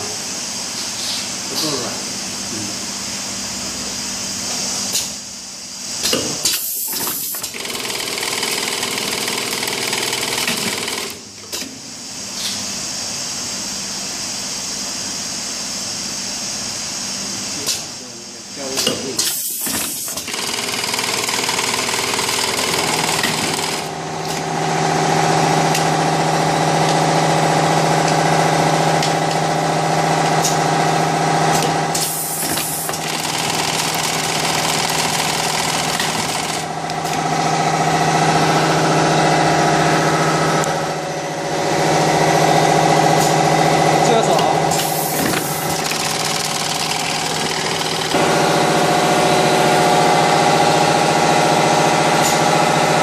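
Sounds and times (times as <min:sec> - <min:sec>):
machine humming with steady tones: 0:05.3 - 0:53.0.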